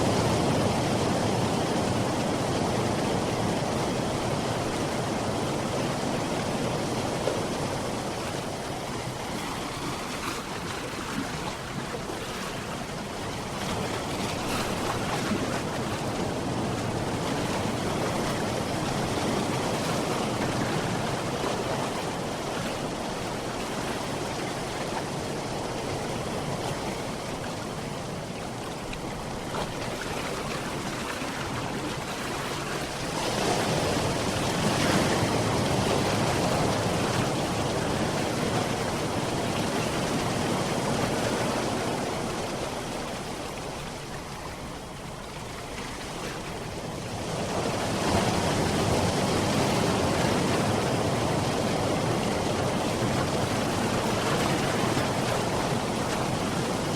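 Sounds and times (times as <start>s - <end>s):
sea waves washing: 0.0s - 56.9s.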